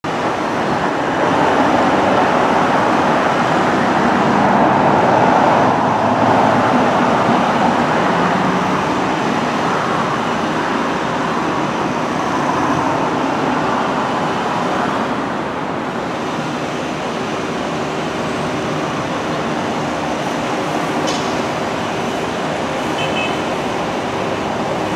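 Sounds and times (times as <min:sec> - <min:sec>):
traffic noise on busy road: 0:00.0 - 0:24.9.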